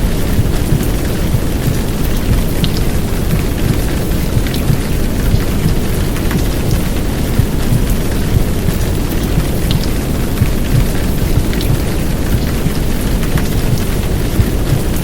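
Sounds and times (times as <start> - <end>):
heavy rain: 0.0 - 15.0
low dense womb noise: 0.0 - 15.0
rain drop ticks: 0.0 - 15.0.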